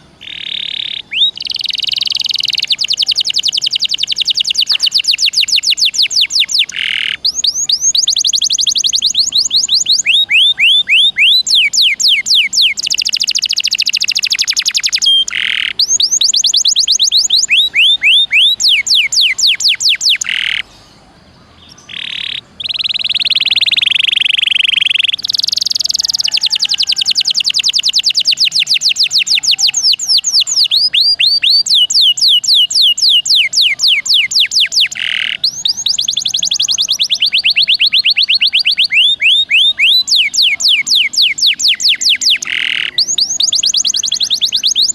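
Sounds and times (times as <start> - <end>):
canary singing: 0.0 - 44.9.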